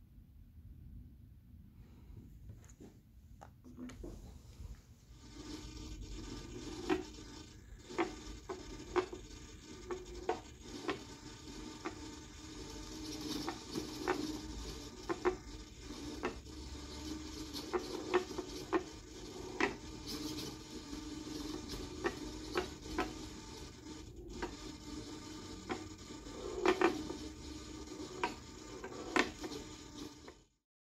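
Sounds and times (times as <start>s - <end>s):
steady low hum: 0.0s - 30.3s
ball rolling on wooden board: 5.2s - 30.4s.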